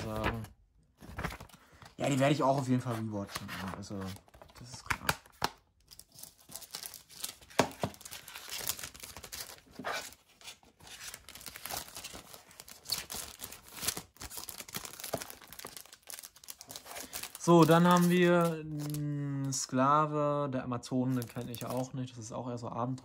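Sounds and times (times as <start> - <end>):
plastic sleeve crinkling: 0.0 - 19.6, 21.1 - 21.8.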